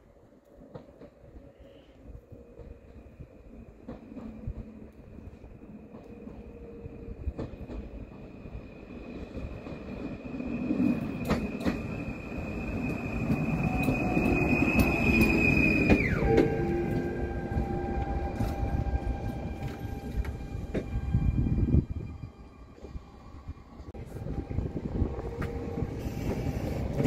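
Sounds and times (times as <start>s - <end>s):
high electric whine of train: 0.0s - 27.0s
train wheels rumbling on rails: 0.0s - 27.0s.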